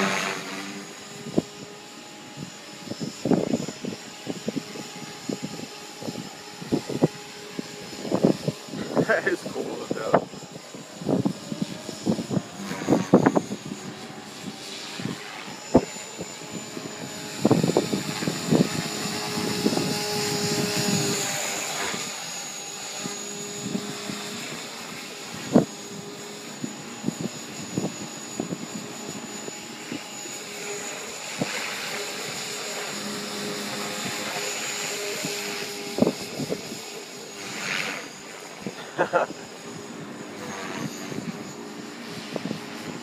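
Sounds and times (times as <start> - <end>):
rc helicopter motor whine: 0.0 - 43.0
rotor blade noise: 0.0 - 43.0.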